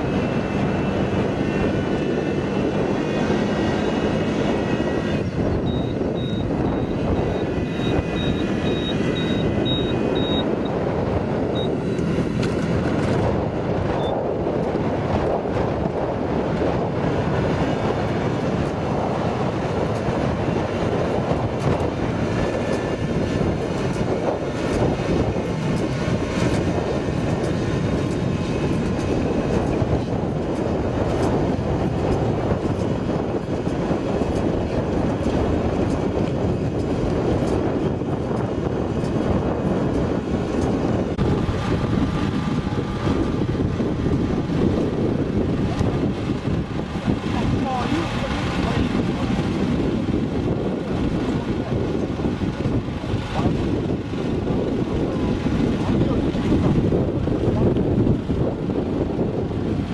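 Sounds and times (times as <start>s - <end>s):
tractor engine under heavy load: 0.0s - 59.9s.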